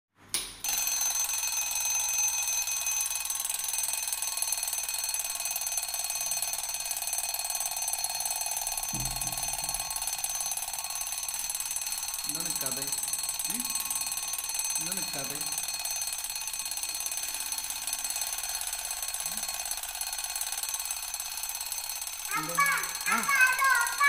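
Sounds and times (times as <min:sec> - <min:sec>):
high-pitched door alarm tone: 0:00.6 - 0:24.0.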